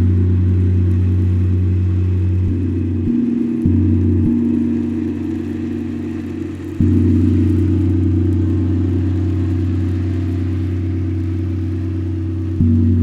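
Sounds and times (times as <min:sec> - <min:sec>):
deep ringing struck tones: 0:00.0 - 0:13.0.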